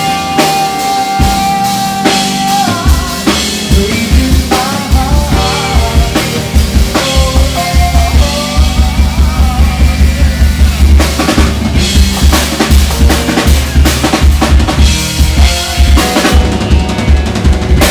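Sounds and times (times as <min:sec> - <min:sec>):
drum kit beat: 0:00.0 - 0:17.9
live band playing: 0:00.0 - 0:17.9.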